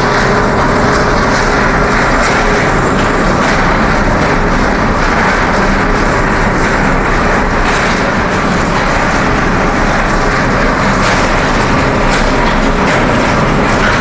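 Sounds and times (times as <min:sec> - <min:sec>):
industrial machinery din: 0:00.0 - 0:14.0.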